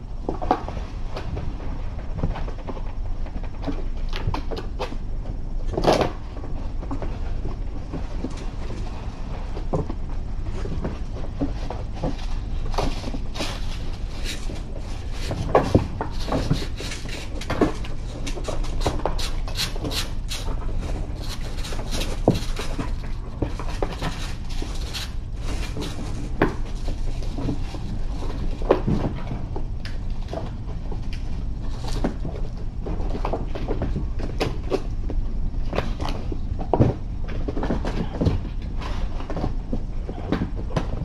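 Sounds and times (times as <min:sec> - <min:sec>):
paws scratching on cardboard: 0:00.0 - 0:41.0
steady low hum: 0:00.0 - 0:41.0.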